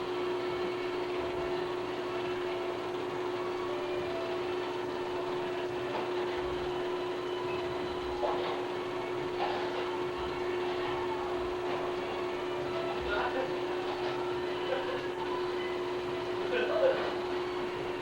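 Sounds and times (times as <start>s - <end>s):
mechanical hum with pitched tone: 0.0s - 18.0s.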